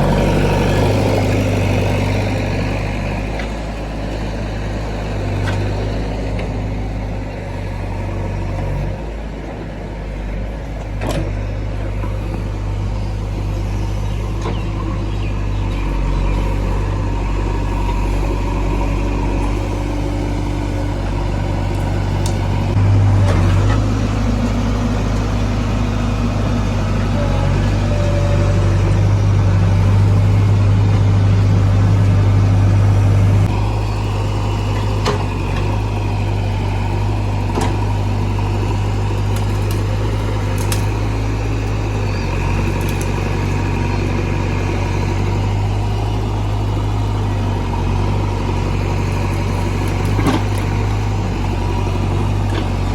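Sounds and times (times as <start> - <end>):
backhoe diesel engine running: 0.0 - 52.9.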